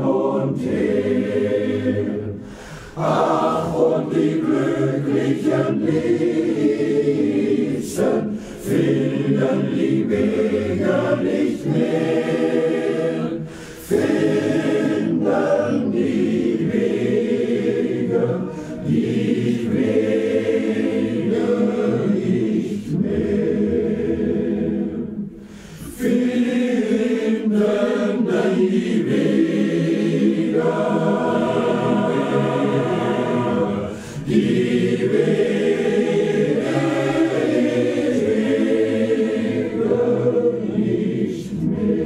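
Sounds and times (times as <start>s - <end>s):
choir singing: 0.0s - 42.0s.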